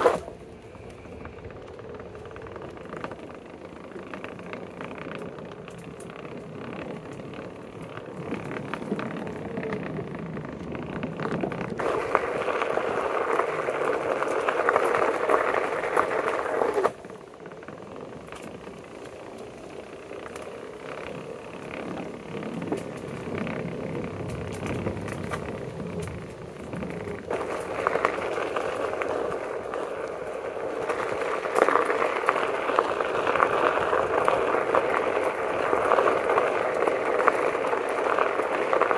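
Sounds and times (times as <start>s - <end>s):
board rolling on boardwalk: 0.0s - 38.9s.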